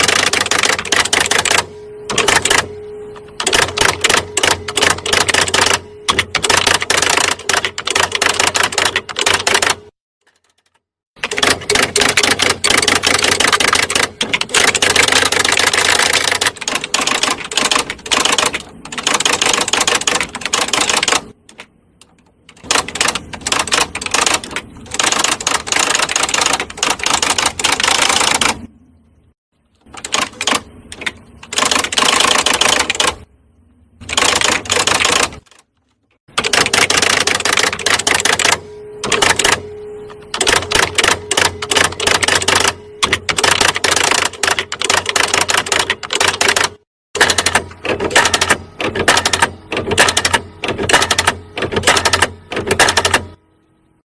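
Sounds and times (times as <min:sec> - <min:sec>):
steady low hum: 0:00.0 - 0:10.0, 0:11.2 - 0:54.0
electric typewriter typing: 0:00.0 - 0:28.7, 0:29.8 - 0:33.3, 0:34.0 - 0:53.4.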